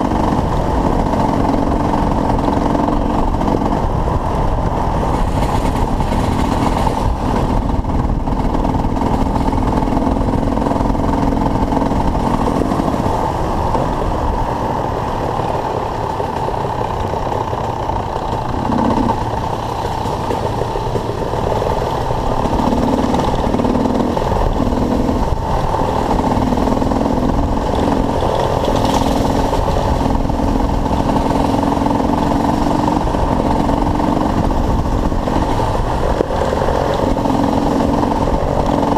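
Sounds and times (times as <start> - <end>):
dirt bike engines idling: 0.0 - 38.9.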